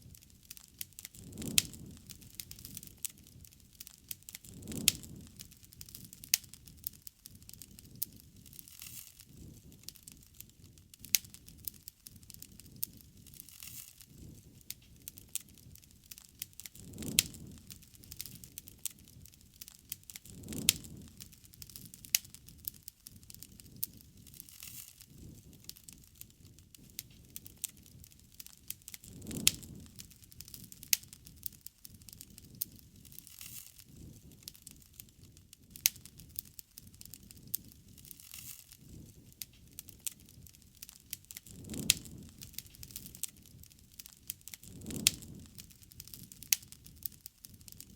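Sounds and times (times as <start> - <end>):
flame surge: 0.0 - 47.9
wood fire crackling and popping: 0.0 - 47.9.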